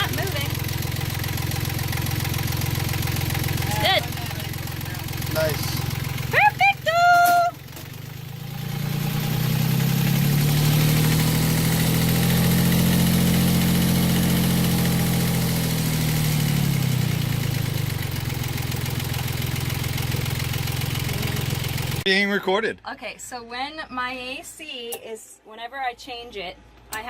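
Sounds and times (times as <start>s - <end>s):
marine diesel engine running: 0.0s - 22.1s.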